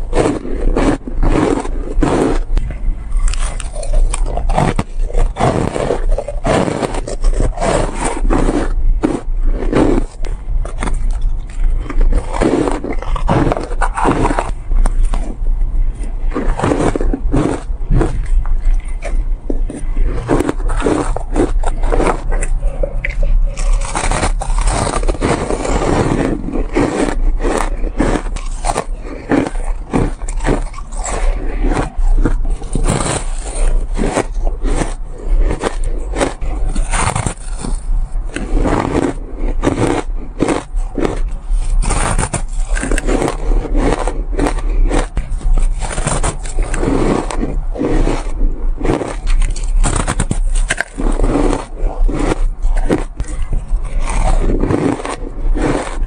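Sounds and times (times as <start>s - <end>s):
ice being chewed crunching: 0.0s - 56.0s.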